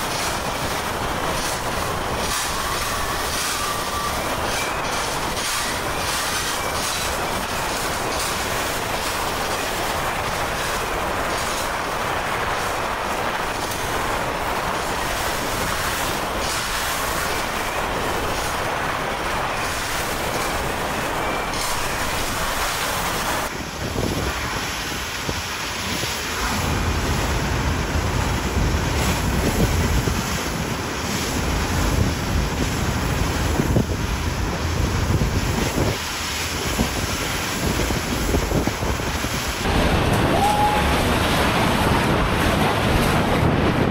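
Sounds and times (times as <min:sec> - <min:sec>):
steady rushing noise: 0:00.0 - 0:43.9
wind buffeting microphone: 0:00.0 - 0:43.9.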